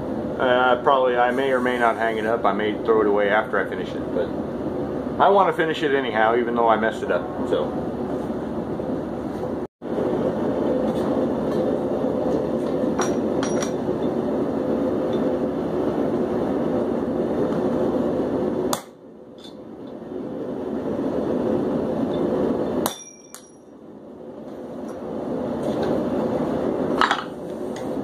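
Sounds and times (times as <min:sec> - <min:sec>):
forge burner rushing: 0:00.0 - 0:28.0.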